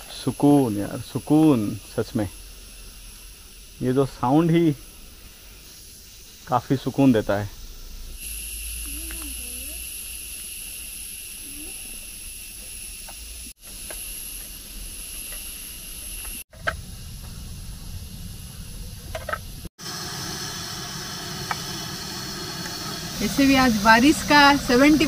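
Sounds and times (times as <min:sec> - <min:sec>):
insect drone: 0:00.0 - 0:25.0.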